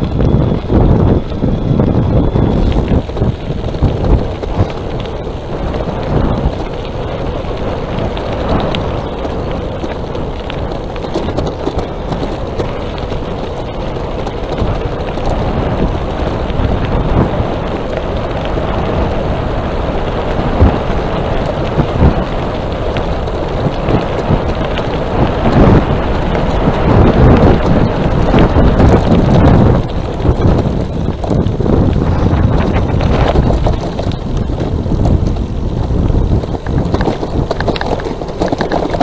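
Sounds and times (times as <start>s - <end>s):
tyres rumbling on road: 0.0s - 39.0s
wind buffeting microphone: 0.0s - 39.0s.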